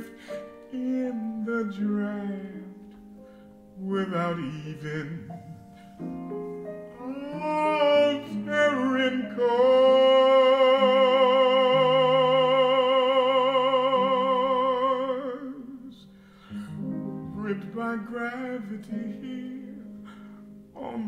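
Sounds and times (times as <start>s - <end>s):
man singing jazz with vibrato: 0.0s - 2.9s, 3.7s - 6.3s, 6.9s - 21.0s
sustained piano chords: 0.0s - 21.0s.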